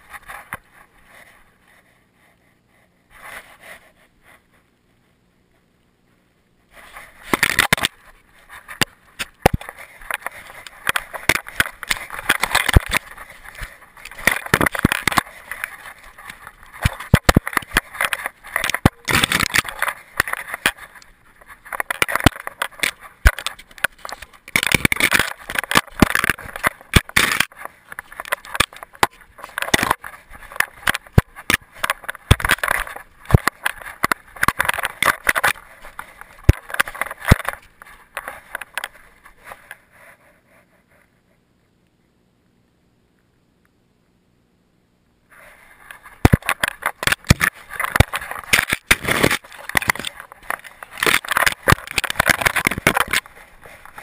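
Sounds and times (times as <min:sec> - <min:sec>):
scraping and crackling on camera: 0:00.0 - 0:41.4, 0:45.3 - 0:54.0.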